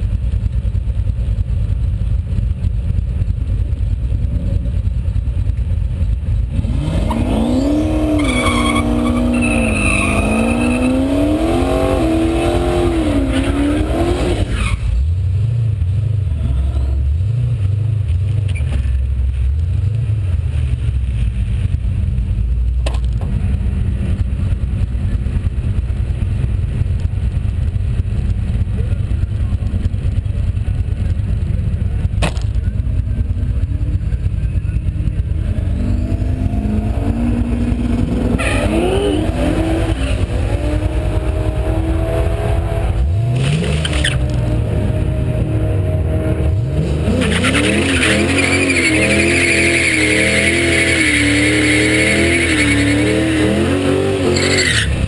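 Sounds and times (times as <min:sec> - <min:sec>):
car engine revving: 0:04.2 - 0:21.9, 0:23.4 - 0:55.0.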